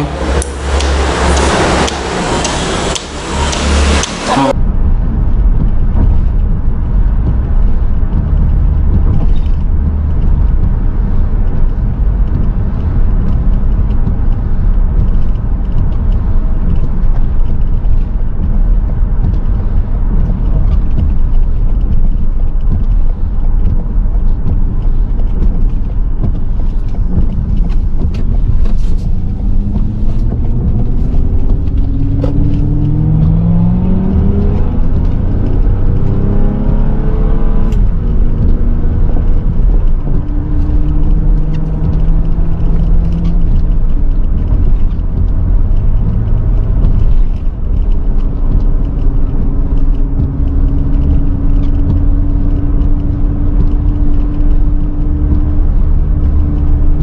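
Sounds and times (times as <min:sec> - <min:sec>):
car road and engine rumble: 0:00.0 - 0:57.0
windshield wipers sweeping: 0:00.0 - 0:57.0.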